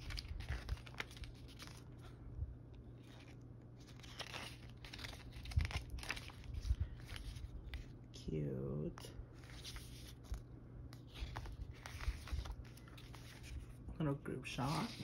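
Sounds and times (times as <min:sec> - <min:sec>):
paper pages turning: 0:00.0 - 0:02.2, 0:02.8 - 0:08.0, 0:09.3 - 0:13.8, 0:14.5 - 0:15.0.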